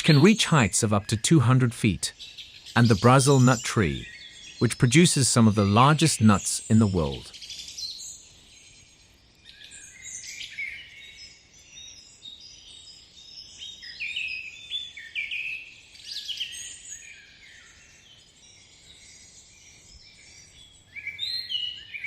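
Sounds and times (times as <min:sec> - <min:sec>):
chorus of birds chirping: 0:00.0 - 0:22.0.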